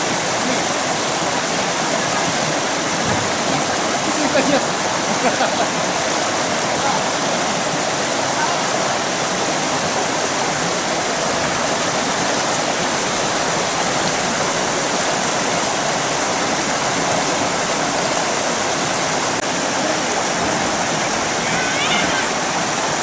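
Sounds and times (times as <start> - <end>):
river rushing: 0.0 - 23.0.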